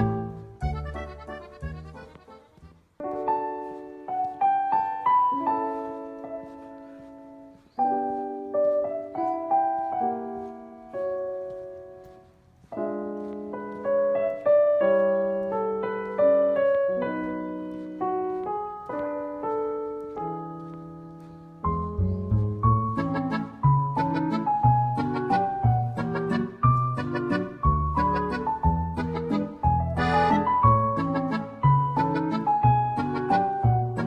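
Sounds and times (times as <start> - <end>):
solo piano playing slow chords: 0.0 - 2.0, 3.0 - 34.0.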